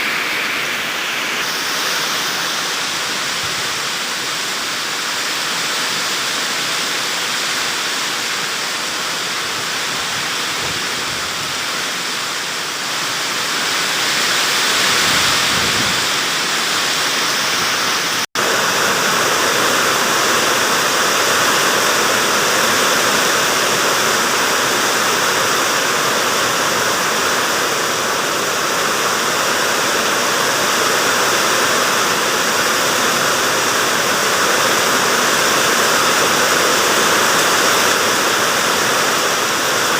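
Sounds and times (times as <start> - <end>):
strong wind: 0.0 - 4.9, 8.3 - 39.9
heavy rain pouring: 0.0 - 39.9.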